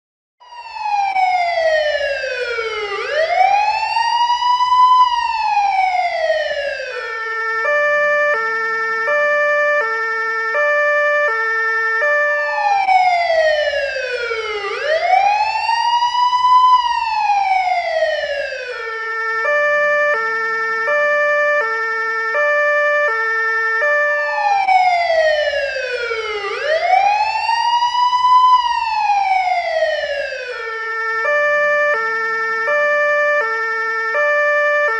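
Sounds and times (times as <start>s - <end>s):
police car siren wailing: 0.4s - 34.9s.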